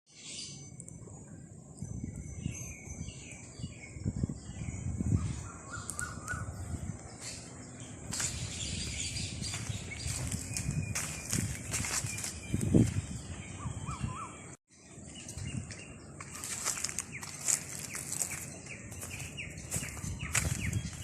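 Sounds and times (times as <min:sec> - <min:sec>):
birds calling: 0:01.9 - 0:21.0.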